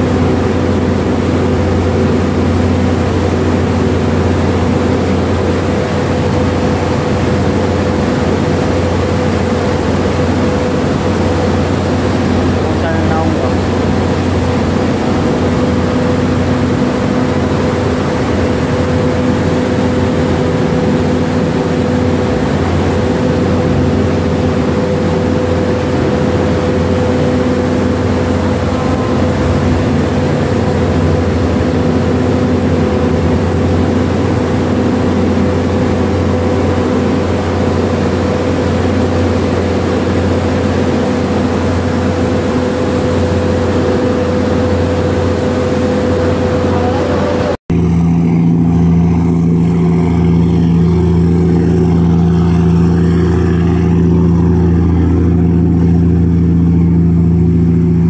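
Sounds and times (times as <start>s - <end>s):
ship engines droning: 0.0s - 58.0s.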